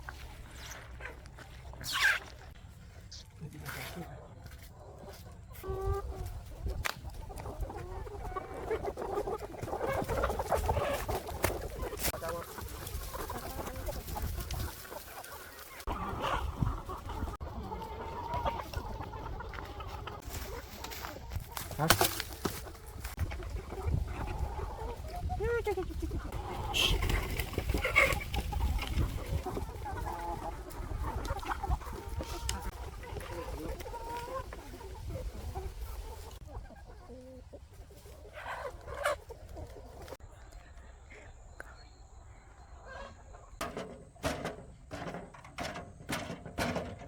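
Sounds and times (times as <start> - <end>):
chickens clucking: 0.0 - 47.0.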